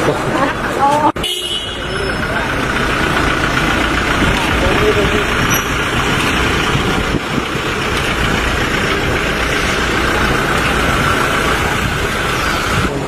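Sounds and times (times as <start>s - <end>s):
pickup trucks driving past: 0.0s - 13.0s.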